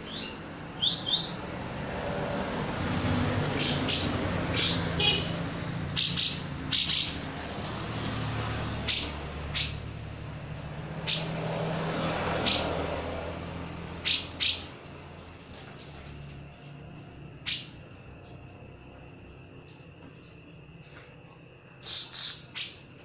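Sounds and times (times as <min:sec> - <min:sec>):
passing traffic hum: 0:00.0 - 0:23.0.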